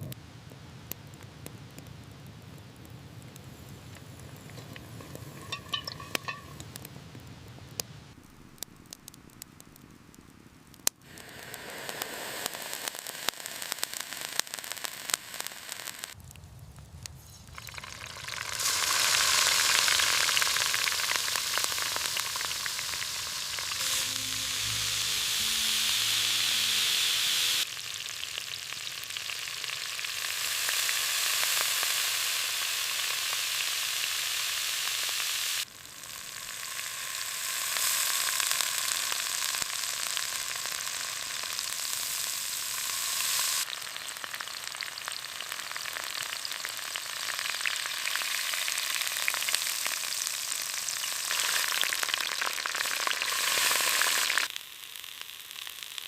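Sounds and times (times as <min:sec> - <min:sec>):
food sizzling over fire: 0:00.0 - 0:56.0.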